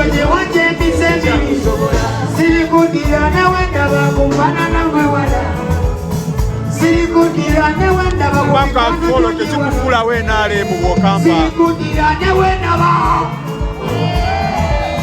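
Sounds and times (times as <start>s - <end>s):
person singing: 0.0s - 15.0s
pulsing bass beat: 0.0s - 15.0s.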